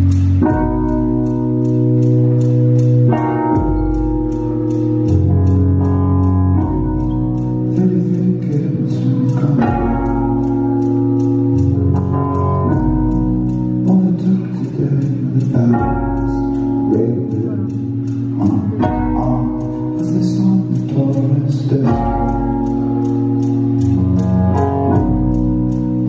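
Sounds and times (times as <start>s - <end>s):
electric keyboard chords: 0.0s - 26.0s
light ticking: 0.0s - 26.0s
low bass line: 0.0s - 26.0s.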